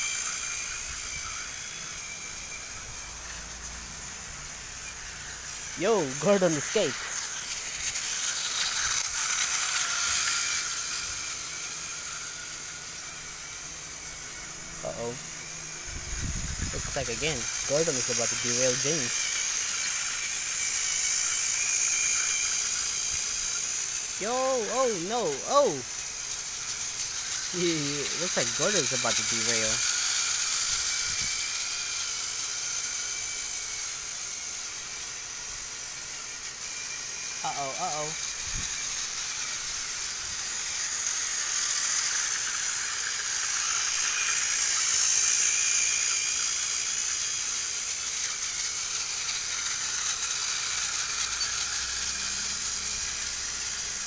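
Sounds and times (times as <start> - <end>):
toy train motor whirring: 0.0 - 54.0.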